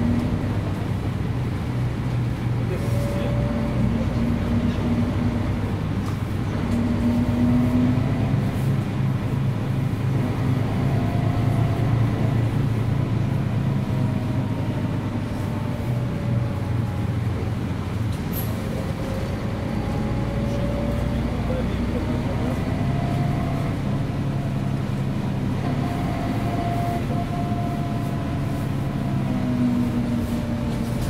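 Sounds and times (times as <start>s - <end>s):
bus diesel engine drone: 0.0s - 31.0s.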